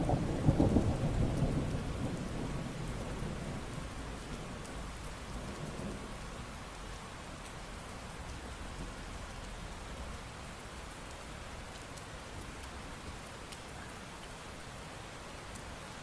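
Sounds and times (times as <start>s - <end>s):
raindrops ticking: 0.0s - 9.8s, 10.5s - 14.4s
rain falling: 0.0s - 16.0s.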